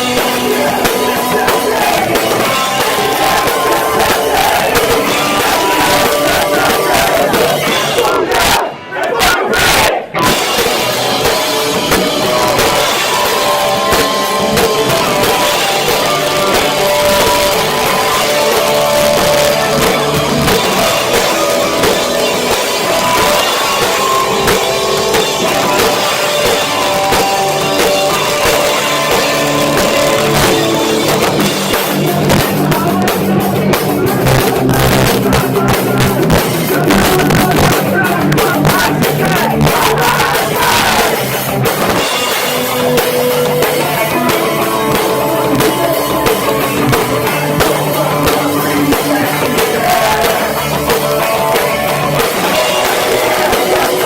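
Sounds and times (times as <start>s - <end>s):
distorted guitars: 0.0s - 54.0s
pounding drums: 0.0s - 54.0s
shouted vocals: 0.0s - 54.0s.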